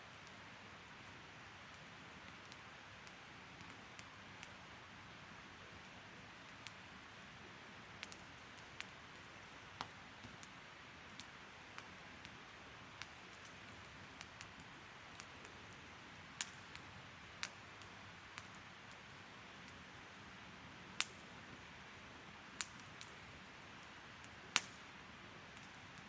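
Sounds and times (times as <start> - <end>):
wood fire crackling: 0.1 - 26.0.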